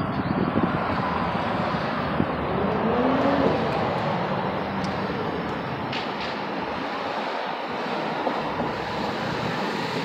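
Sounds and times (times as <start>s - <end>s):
cars driving past: 0.0s - 10.0s.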